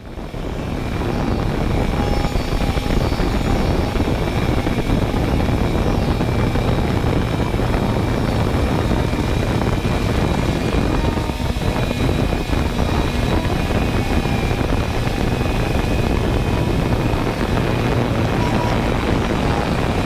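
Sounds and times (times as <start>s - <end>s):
drone propellers whirring: 0.0s - 20.0s
high-pitched motor whines: 0.0s - 20.0s.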